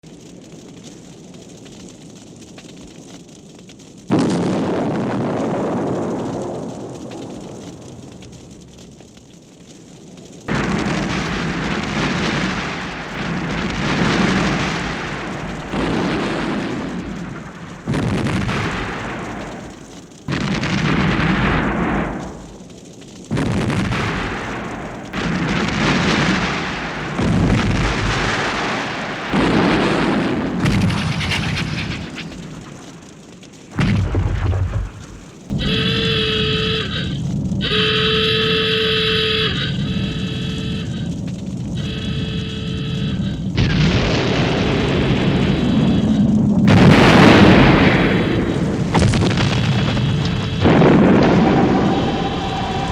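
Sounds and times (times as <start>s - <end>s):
rumbling explosions: 0.0s - 52.9s.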